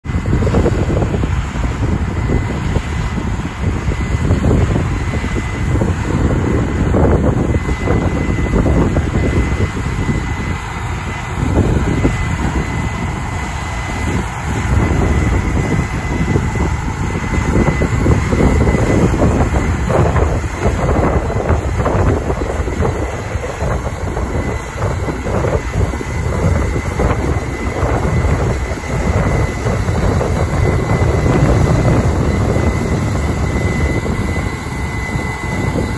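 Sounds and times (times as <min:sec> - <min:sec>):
combine harvester engine drone: 0:00.0 - 0:35.9
high machinery whine: 0:00.0 - 0:35.9
wind buffeting microphone: 0:00.0 - 0:35.9.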